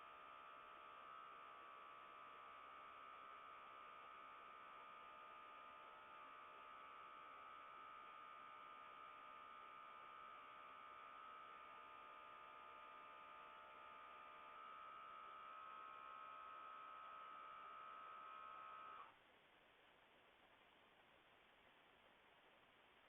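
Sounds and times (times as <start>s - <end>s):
faint refrigerator whine: 0.0s - 23.0s.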